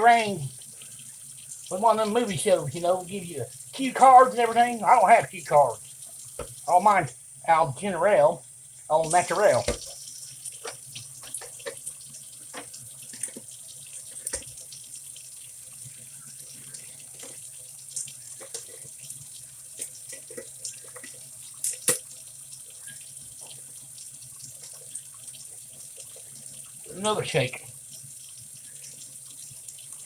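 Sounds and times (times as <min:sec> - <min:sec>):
water splashing and dripping: 0:00.0 - 0:08.2, 0:08.9 - 0:30.0.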